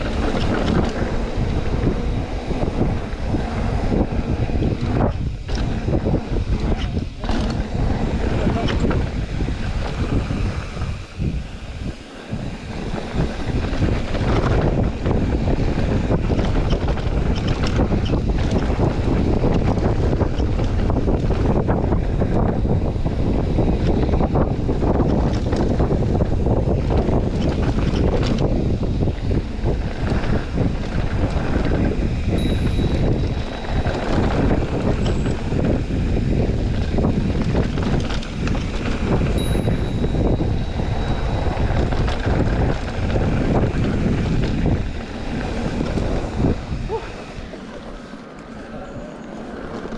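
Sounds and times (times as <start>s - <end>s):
bike rattling and knocking: 0.0s - 48.6s
wind buffeting microphone: 0.0s - 49.9s.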